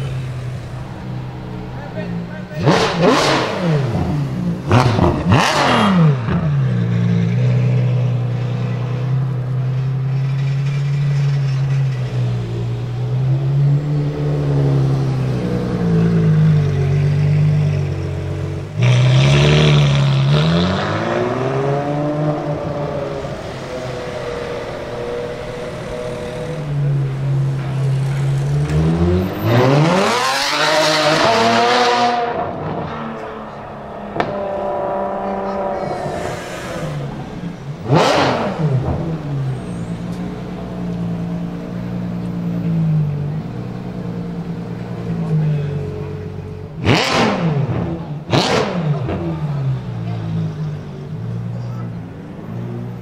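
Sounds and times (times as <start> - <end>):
sports car engine revving: 0.0 - 53.0.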